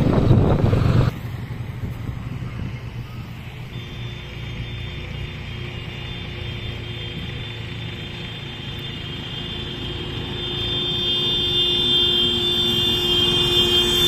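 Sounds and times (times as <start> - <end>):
motorcycle engine approaching: 0.0 - 14.0.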